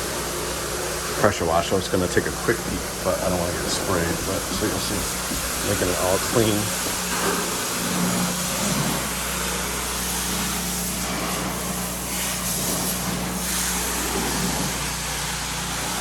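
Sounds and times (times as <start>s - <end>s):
pressure washer motor drone: 0.0s - 16.0s
water jet hissing: 0.0s - 16.0s.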